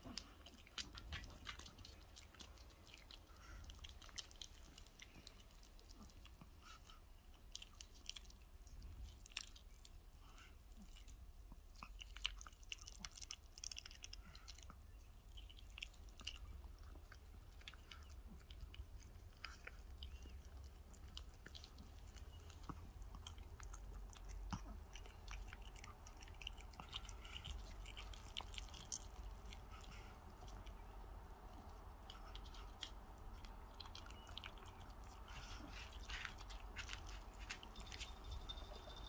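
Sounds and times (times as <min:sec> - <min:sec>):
dog chewing and crunching bone: 0:00.0 - 0:39.0.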